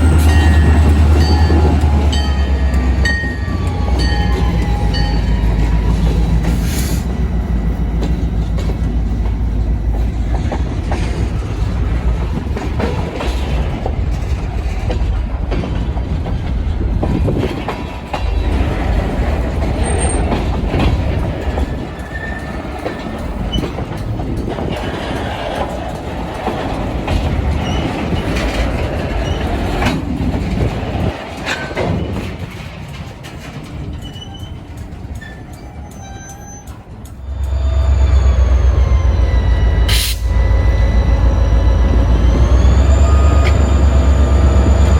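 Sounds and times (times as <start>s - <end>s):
wheels clicking over rail joints: 0.0s - 37.7s
passenger train rumbling past: 0.0s - 44.9s.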